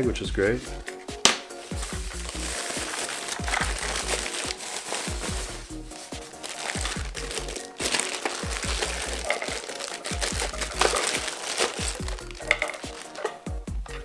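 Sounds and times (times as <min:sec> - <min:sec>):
music with deep bass beat: 0:00.0 - 0:09.3, 0:10.2 - 0:11.2, 0:11.8 - 0:14.0
plastic bag crinkling: 0:01.6 - 0:13.5.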